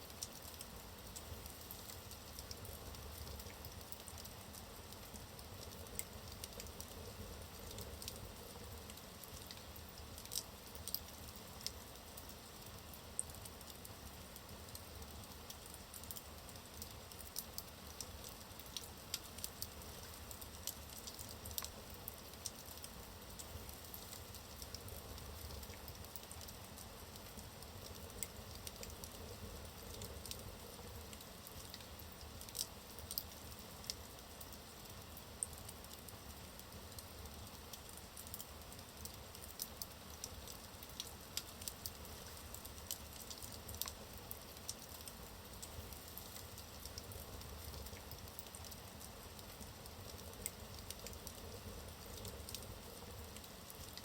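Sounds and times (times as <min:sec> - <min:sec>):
wood fire crackling and popping: 0:00.1 - 0:54.0.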